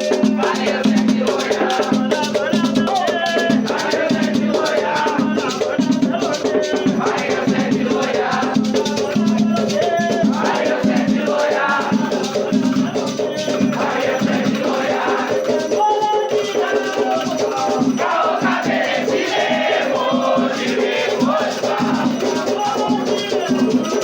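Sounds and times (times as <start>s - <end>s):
drumming: 0.0s - 24.0s
voices singing a chant: 0.0s - 24.0s.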